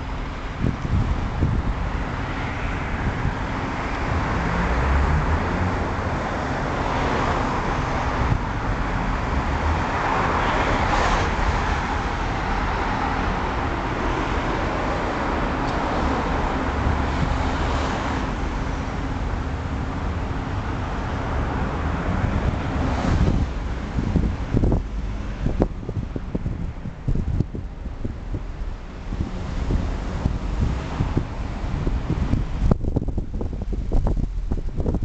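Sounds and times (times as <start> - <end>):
cars passing: 0.0 - 35.0
roadway noise with deep rumble: 0.0 - 35.0.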